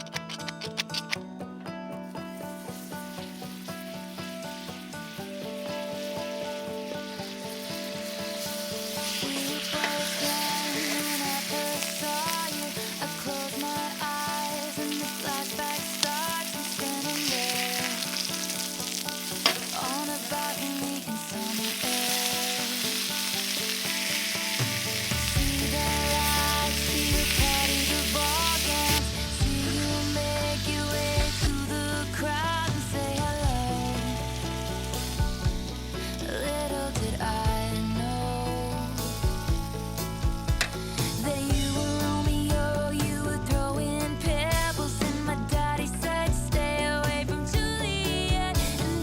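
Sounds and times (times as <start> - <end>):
background music with heavy bass: 0.0 - 49.0
steak sizzling over fire: 2.1 - 43.2.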